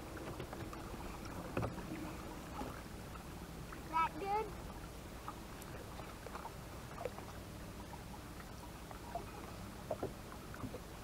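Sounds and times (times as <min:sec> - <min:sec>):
faint short water sounds: 0:00.0 - 0:11.0
watercraft engine humming: 0:00.0 - 0:11.0.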